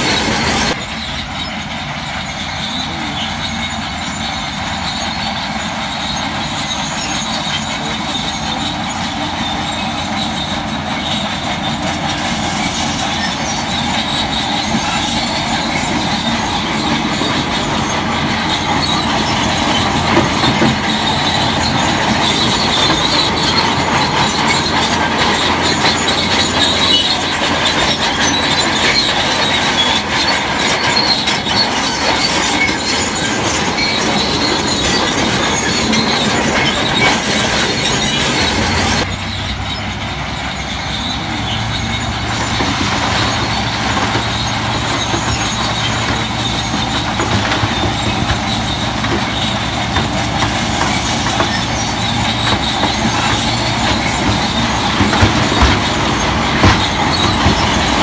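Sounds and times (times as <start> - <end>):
crawler tracks squealing and clanking: 0.0 - 58.0
diesel engine running: 0.0 - 58.0.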